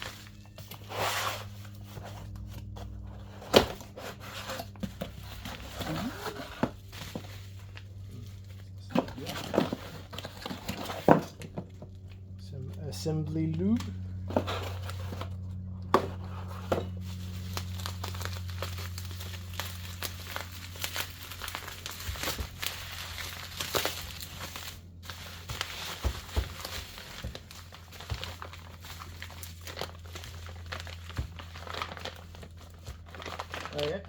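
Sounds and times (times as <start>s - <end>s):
packaging crinkling and tearing: 0.0s - 11.4s, 13.8s - 34.0s
steady low hum: 0.0s - 33.6s.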